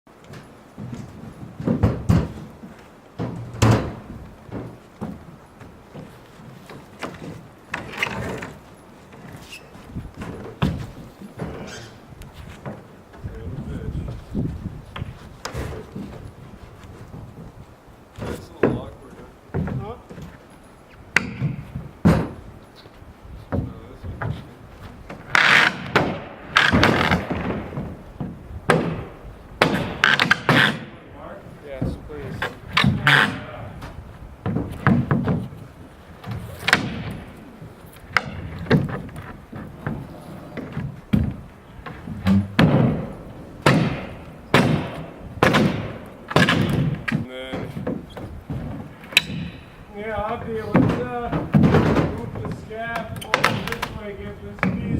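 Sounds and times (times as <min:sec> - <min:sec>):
timber knocks and thuds: 0:00.1 - 0:22.7, 0:23.4 - 0:31.1, 0:31.7 - 0:54.9
wood scraping: 0:00.1 - 0:54.9.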